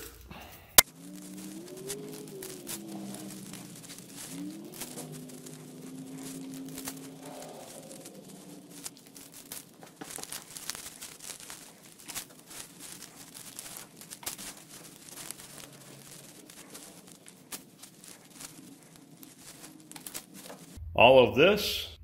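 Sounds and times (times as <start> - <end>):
dirt and debris scraped from metal: 0.0 - 20.8.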